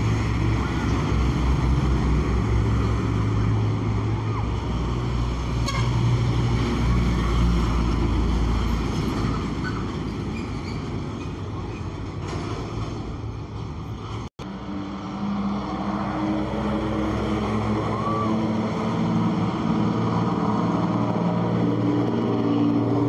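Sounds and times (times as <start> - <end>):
trucks driving past: 0.0 - 23.0.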